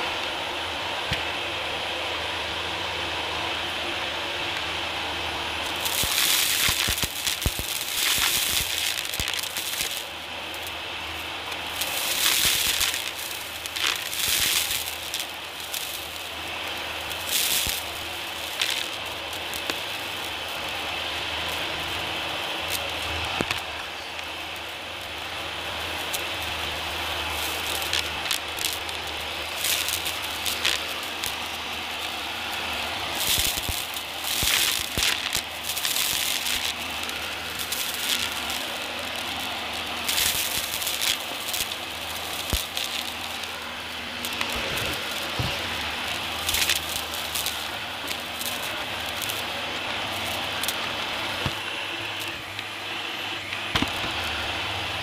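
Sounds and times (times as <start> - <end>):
cordless vacuum whining: 0.0 - 55.0
debris crackling and rattling: 5.6 - 55.0.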